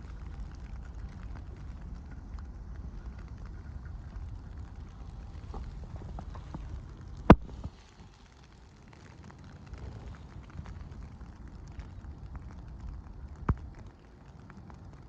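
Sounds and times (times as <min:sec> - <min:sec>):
blizzard low rumble: 0:00.0 - 0:15.0
light ticks: 0:00.0 - 0:15.0.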